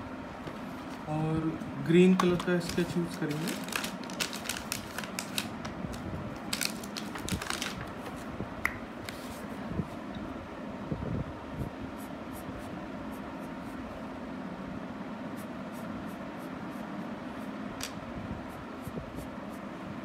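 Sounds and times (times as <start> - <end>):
fan-like hum: 0.0 - 20.0.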